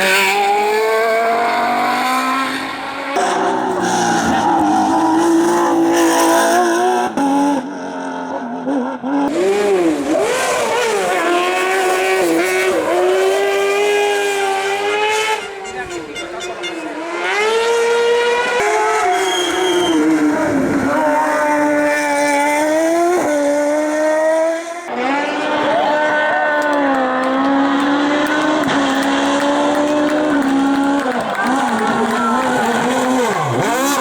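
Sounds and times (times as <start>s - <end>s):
racing car engines at full throttle: 0.0s - 34.0s.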